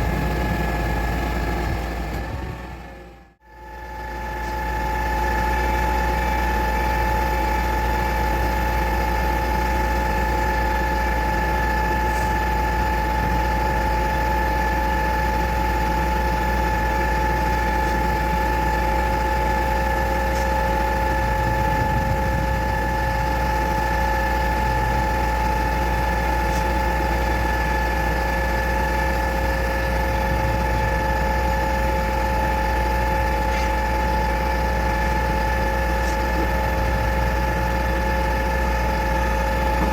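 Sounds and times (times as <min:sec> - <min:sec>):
engine rumble: 0:00.0 - 0:39.9
steady high whine: 0:00.0 - 0:39.9.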